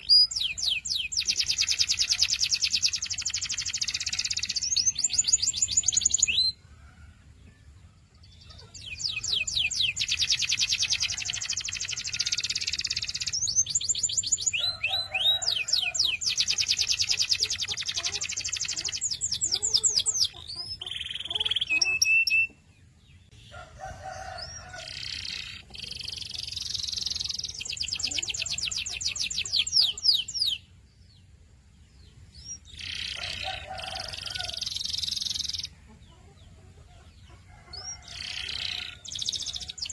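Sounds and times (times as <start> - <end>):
canary singing trills: 0.0 - 6.6, 8.2 - 39.9.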